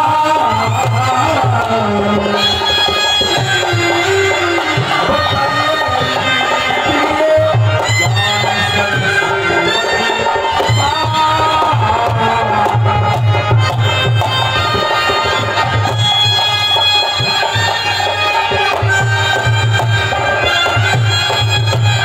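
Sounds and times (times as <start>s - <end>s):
hand drum rhythm: 0.0s - 22.0s.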